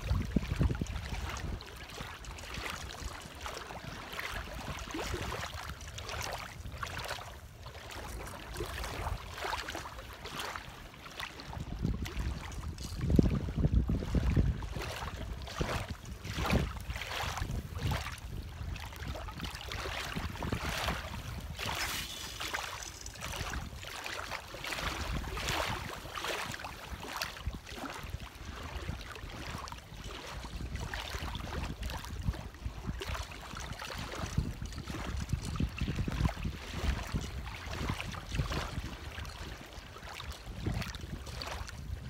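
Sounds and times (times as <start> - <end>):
wind buffeting microphone: 0.0 - 9.7, 11.4 - 42.0
lake water lapping and splashing: 0.0 - 42.0.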